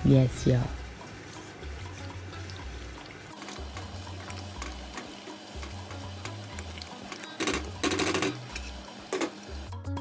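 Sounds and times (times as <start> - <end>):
background music with bass line: 1.5 - 10.0.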